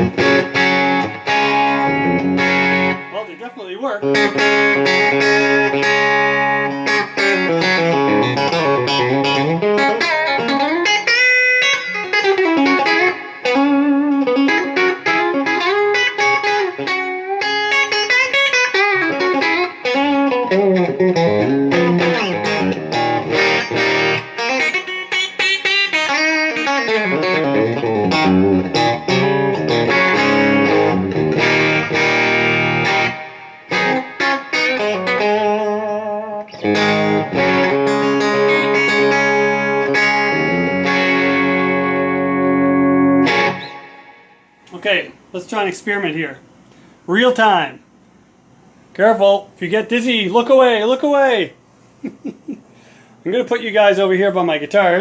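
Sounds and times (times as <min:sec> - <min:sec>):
electric guitar lead with bent notes: 0:00.0 - 0:44.6.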